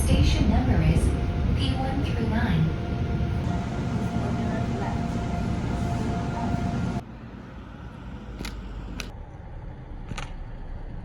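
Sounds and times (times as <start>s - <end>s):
faint steady whine: 0.0s - 9.1s
passenger train rumbling: 0.0s - 11.0s.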